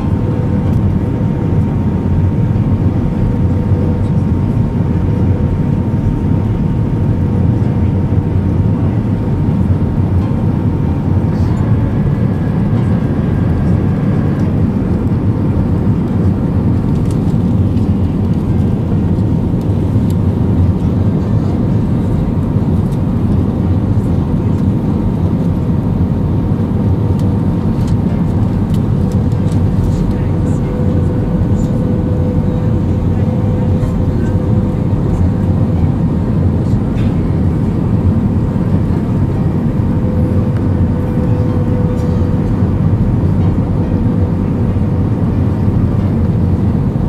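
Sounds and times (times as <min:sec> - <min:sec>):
airplane engines droning in cabin: 0:00.0 - 0:47.0.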